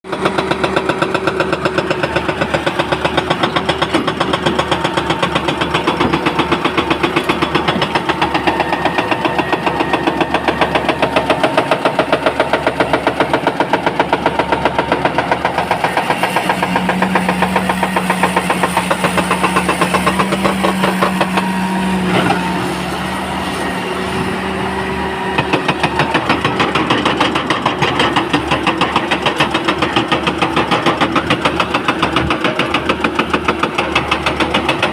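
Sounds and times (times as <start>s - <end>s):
excavator diesel engine pulsing: 0.1s - 34.9s.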